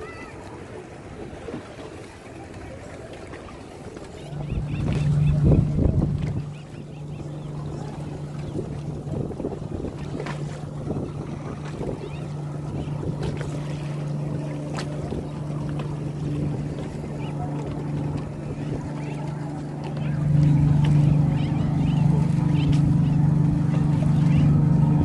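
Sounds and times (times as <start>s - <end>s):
boat engine droning: 0.0s - 25.0s
choppy water: 0.0s - 25.0s
wind: 0.0s - 25.0s.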